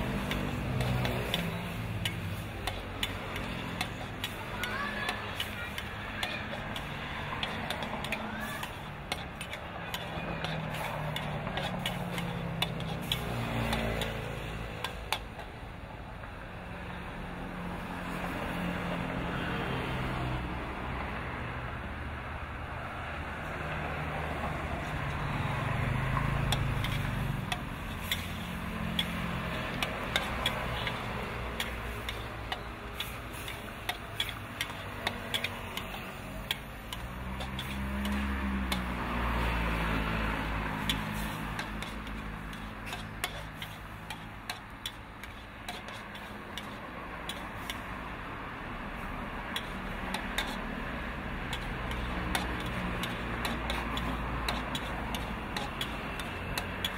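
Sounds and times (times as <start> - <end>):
seafood sizzling: 0.0 - 15.1, 25.2 - 56.9
metal spatula scraping wok: 0.0 - 15.6, 26.0 - 48.2, 48.8 - 56.9.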